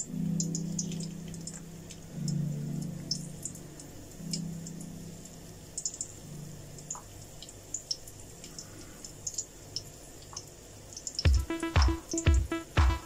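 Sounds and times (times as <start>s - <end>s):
oil crackling while deep-frying: 0.4s - 11.3s.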